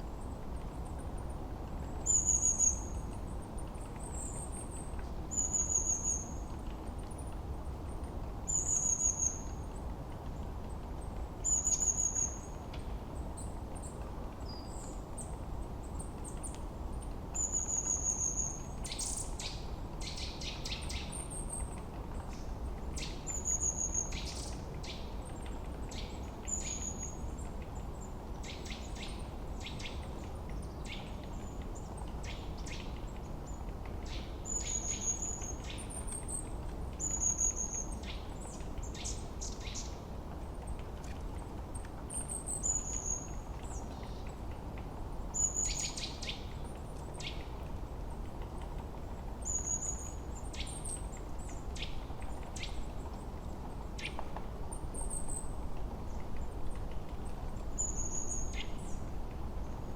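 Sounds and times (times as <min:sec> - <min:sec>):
low hush of wind: 0:00.0 - 0:59.9.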